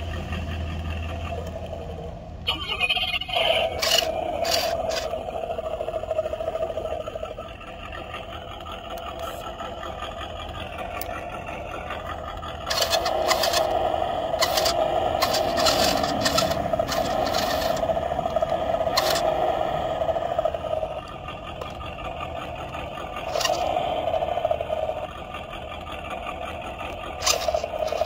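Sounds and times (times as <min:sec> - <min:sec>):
electric motor whining: 0:03.6 - 0:28.0
rapid rattling clicks: 0:03.6 - 0:28.0.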